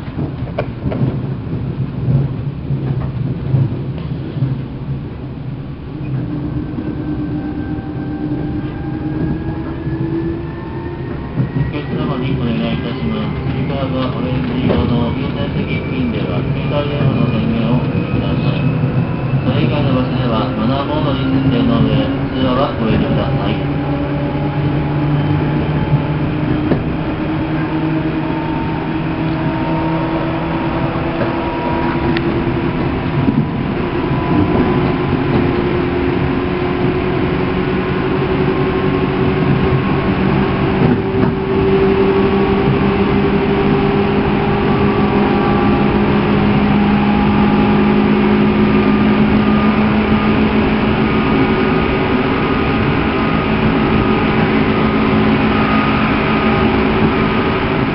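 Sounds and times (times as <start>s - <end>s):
wheels rumbling on rails: 0.0s - 57.9s
traction motors whining: 5.6s - 57.9s.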